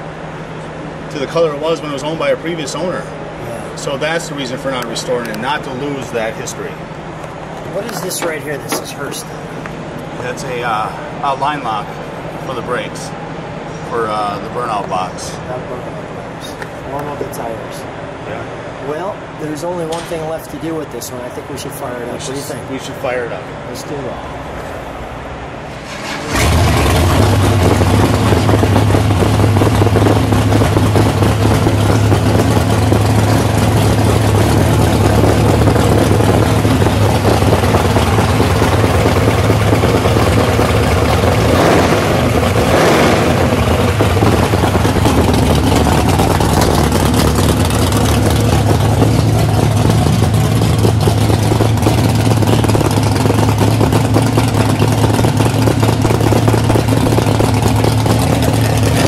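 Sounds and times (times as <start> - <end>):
loud car engine running: 0.0 - 59.0.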